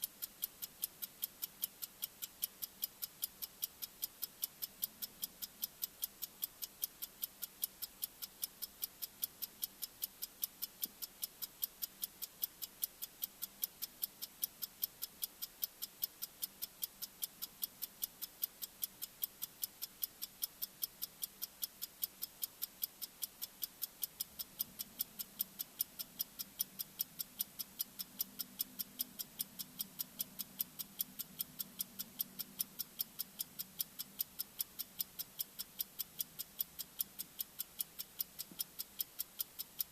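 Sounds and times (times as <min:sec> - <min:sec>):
fast clock-like ticks: 0:00.0 - 0:39.9.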